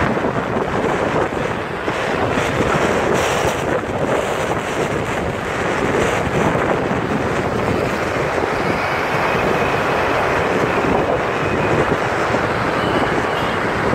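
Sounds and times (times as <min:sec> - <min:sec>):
road and traffic noise: 0:00.0 - 0:13.9
wind rush on microphone: 0:00.0 - 0:13.9.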